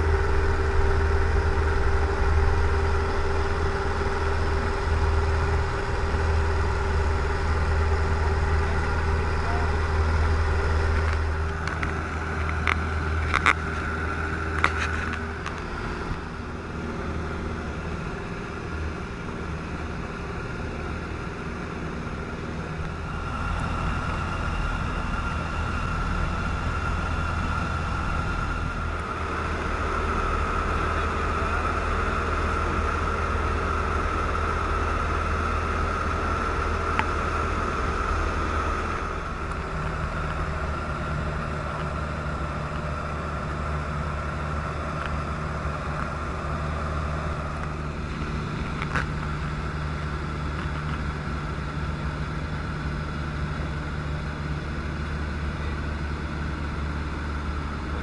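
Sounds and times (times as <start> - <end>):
airflow noise: 0.0 - 58.0
light aircraft engine droning: 0.0 - 58.0.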